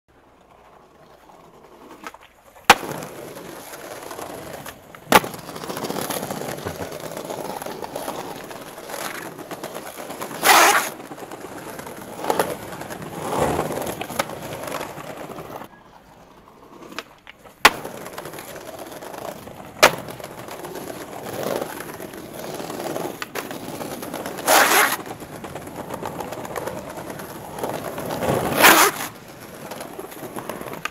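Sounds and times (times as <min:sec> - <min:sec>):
skateboard wheels rolling on stone: 0:00.1 - 0:30.9
skateboard clacks: 0:00.2 - 0:30.9
skateboard impact: 0:00.2 - 0:30.9.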